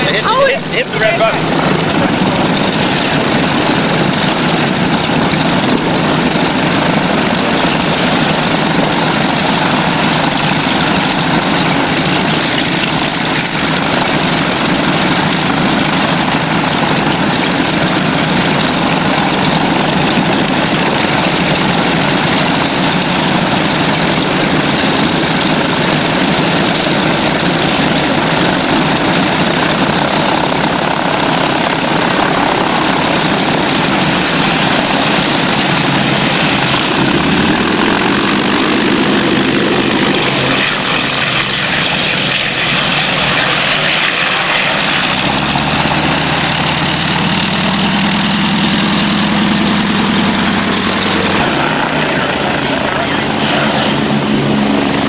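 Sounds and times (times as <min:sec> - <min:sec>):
propeller aircraft engines droning: 0:00.0 - 0:55.0.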